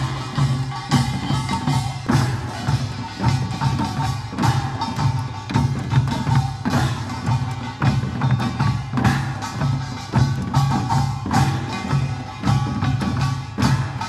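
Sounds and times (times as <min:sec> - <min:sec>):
barrel drums beating: 0:00.0 - 0:14.0.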